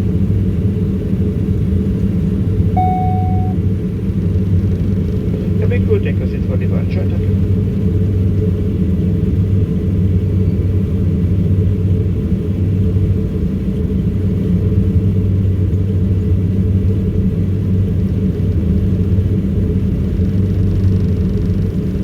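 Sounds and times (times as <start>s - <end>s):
turboprop engines droning in cabin: 0.0s - 22.0s.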